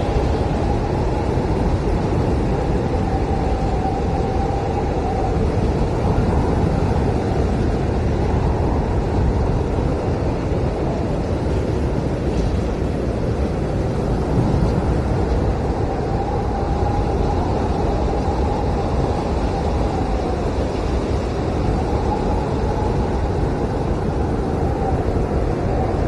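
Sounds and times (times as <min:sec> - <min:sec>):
blizzard wind howling: 0:00.0 - 0:26.0.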